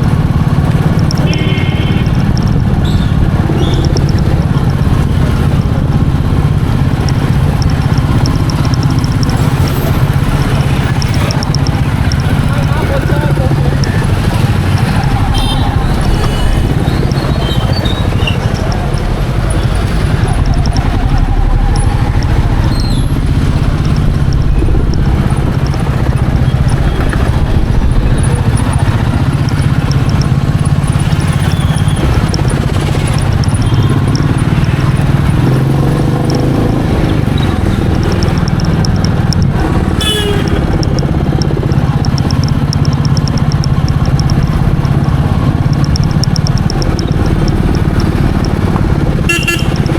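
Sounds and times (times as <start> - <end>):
motorcycle engine running: 0.0 - 49.9
road noise: 0.0 - 49.9.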